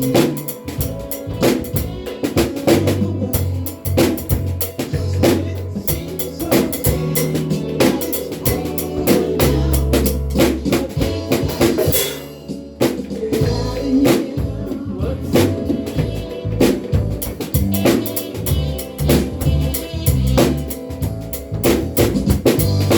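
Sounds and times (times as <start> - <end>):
drum kit playing a groove: 0.0 - 22.9
recorded song with bass and vocals: 0.0 - 22.9.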